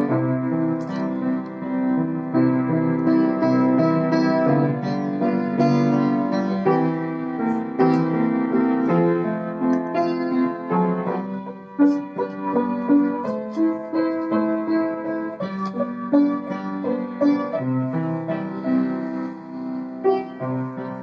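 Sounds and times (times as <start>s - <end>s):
solo piano playing a hymn: 0.0s - 21.0s.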